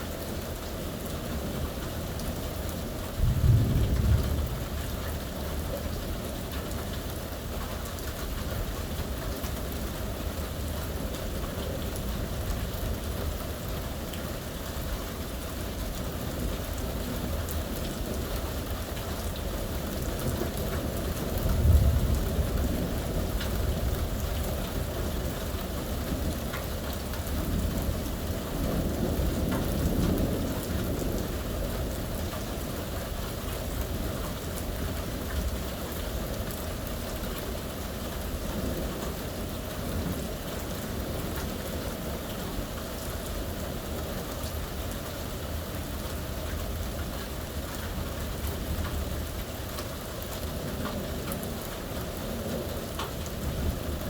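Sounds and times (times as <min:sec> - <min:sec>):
steady rain: 0:00.0 - 0:54.0
low rumble of thunder: 0:00.8 - 0:54.0.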